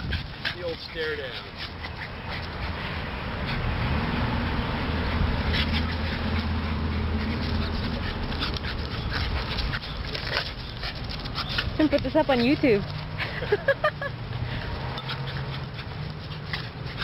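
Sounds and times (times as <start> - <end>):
puppy growling: 0.0 - 13.1, 14.7 - 17.0.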